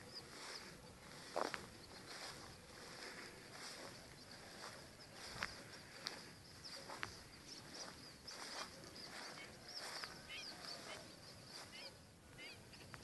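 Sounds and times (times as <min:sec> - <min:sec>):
small birds chirping: 0:00.0 - 0:13.0
trilled bird calls: 0:00.0 - 0:13.0.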